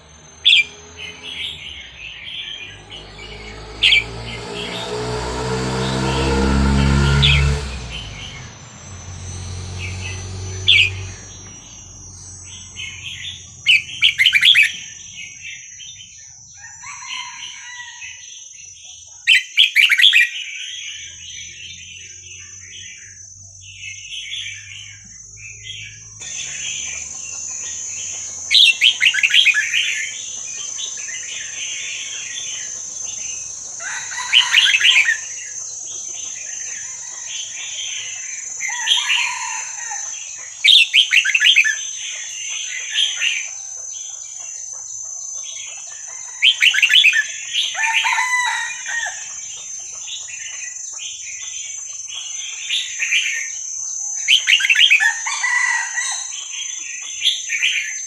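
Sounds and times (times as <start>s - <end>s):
bird warbling song: 7.1s - 58.0s.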